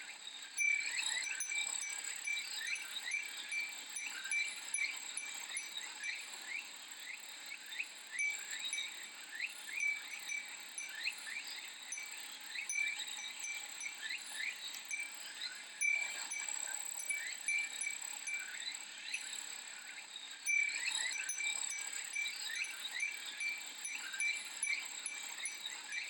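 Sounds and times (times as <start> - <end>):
glass wind chime tinkling: 0.3 - 26.0
cicadas singing: 0.6 - 19.4, 20.3 - 26.0.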